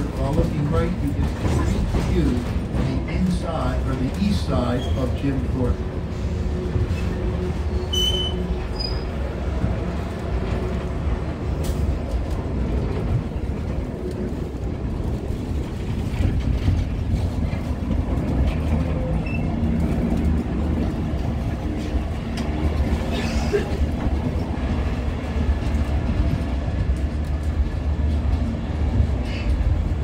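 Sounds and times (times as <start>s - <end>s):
train car rumbling on rails: 0.0s - 30.0s.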